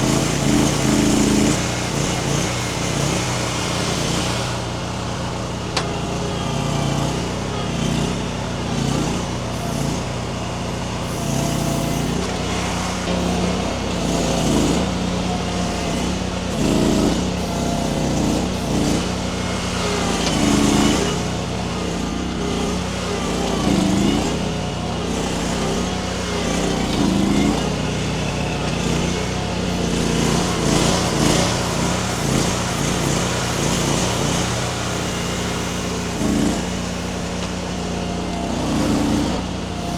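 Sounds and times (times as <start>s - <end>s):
skid steer engine under load: 0.0s - 39.9s.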